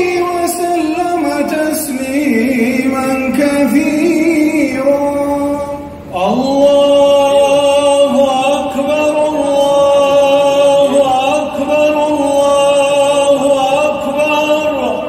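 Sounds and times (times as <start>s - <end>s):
slow vocal chant: 0.0s - 15.0s.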